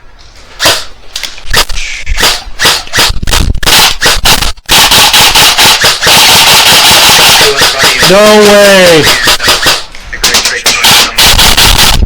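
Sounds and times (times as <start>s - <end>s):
airsoft guns firing: 0.6s - 0.9s, 2.2s - 12.0s.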